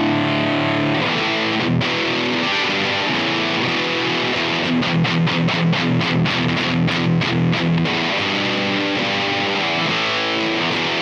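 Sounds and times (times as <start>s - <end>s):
distorted electric guitar: 0.0s - 11.0s.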